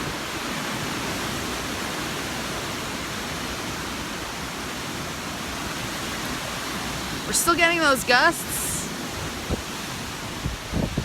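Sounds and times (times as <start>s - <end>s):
hurricane wind rushing: 0.0s - 11.0s
wind gusts buffeting microphone: 0.0s - 11.0s.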